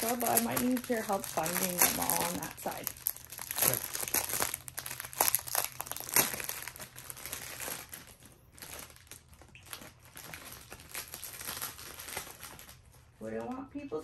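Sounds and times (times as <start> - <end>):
plastic bags crinkling: 0.0 - 13.6.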